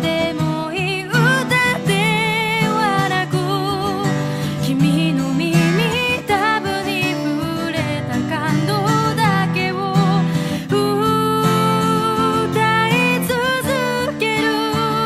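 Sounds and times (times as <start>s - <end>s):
guitar accompaniment: 0.0s - 15.0s
person singing with vibrato: 0.0s - 15.0s.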